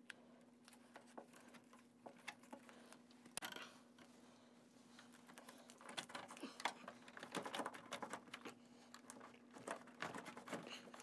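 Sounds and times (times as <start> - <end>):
wire clicking and rustling in plastic: 0.0 - 4.1, 4.9 - 11.0.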